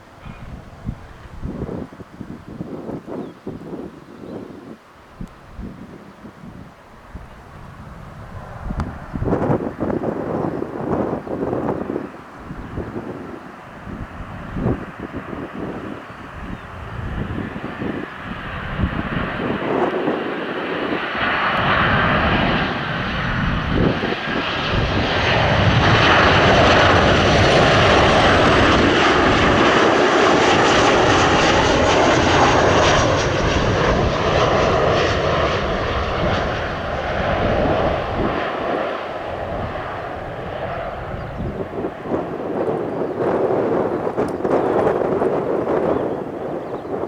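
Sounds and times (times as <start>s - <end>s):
jet engines passing: 0.0s - 47.0s.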